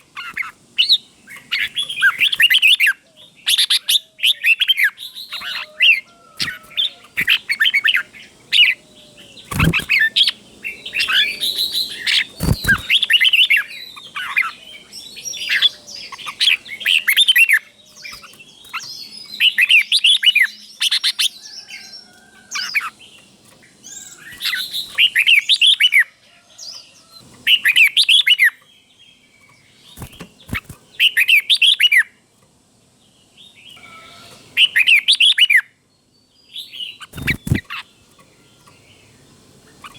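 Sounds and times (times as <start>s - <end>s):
bird singing warbled phrases: 0.0s - 32.3s, 32.9s - 39.9s.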